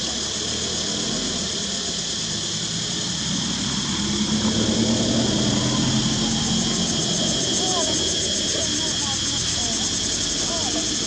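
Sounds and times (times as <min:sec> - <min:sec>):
high-pitched insect drone: 0:00.0 - 0:11.0
low engine hum: 0:00.0 - 0:11.0.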